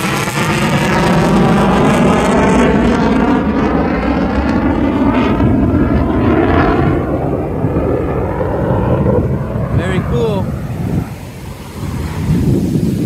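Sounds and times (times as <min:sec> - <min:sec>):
airplane engine flying past: 0:00.0 - 0:13.0.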